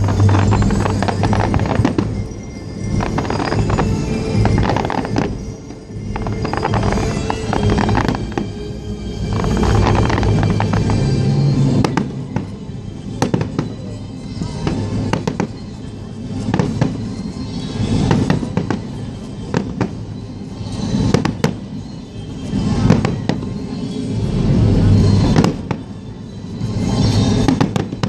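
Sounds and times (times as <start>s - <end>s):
fireworks bangs and crackles: 0.0s - 28.0s
music playing: 0.0s - 28.0s.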